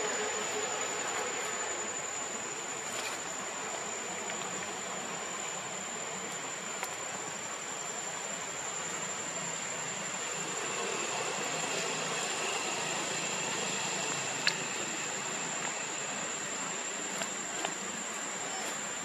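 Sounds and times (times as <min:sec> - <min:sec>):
high-pitched whine: 0:00.0 - 0:19.0.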